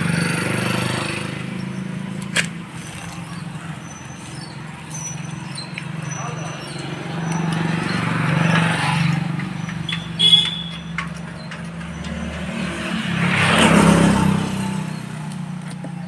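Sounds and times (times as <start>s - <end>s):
vehicle passing by: 0.0s - 9.9s, 11.4s - 15.6s.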